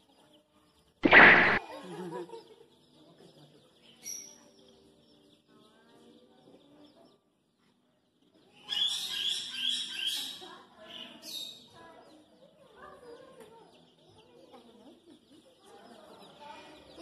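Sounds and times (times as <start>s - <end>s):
baby chicks peeping: 0.0s - 17.0s.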